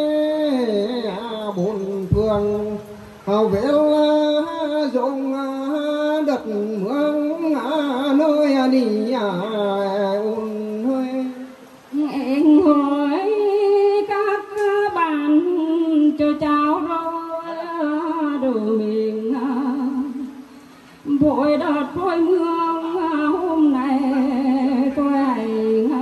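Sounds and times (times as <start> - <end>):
man singing through loudspeaker: 0.0 - 20.4, 21.0 - 26.0
woman singing in higher voice: 0.0 - 26.0.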